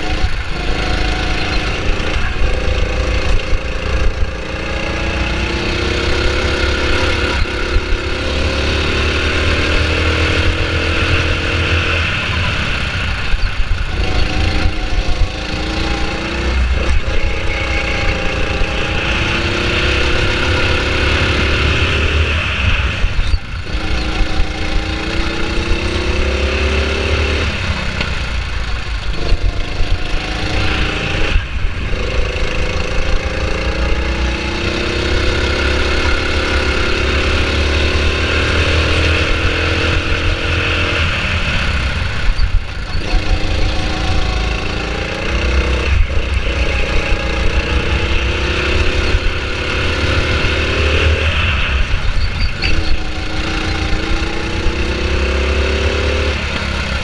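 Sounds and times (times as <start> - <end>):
go-kart engine at full throttle: 0.0 - 57.0.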